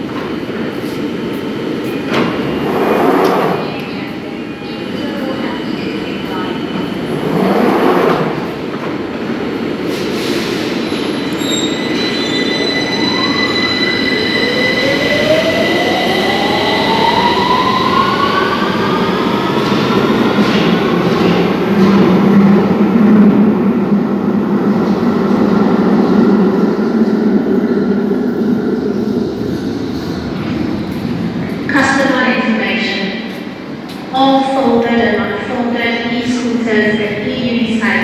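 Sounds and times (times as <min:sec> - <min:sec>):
train rumbling through station: 0:00.0 - 0:38.0.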